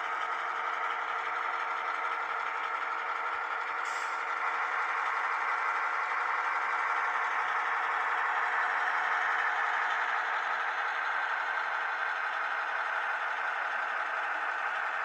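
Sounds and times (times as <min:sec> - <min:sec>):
model train hum and rattle: 0:00.0 - 0:15.0.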